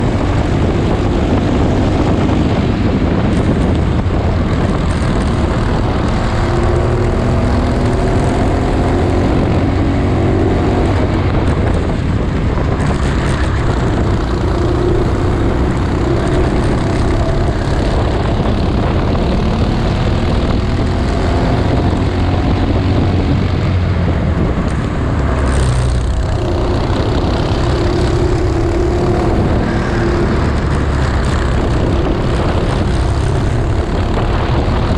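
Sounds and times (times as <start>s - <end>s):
kart engine revving: 0.0s - 23.4s, 24.3s - 34.9s.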